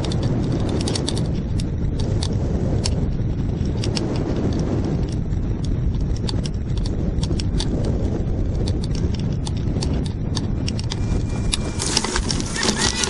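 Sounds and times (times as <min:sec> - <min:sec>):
sharp ticks and rattles: 0:00.0 - 0:13.0
wind buffeting microphone: 0:00.0 - 0:13.0.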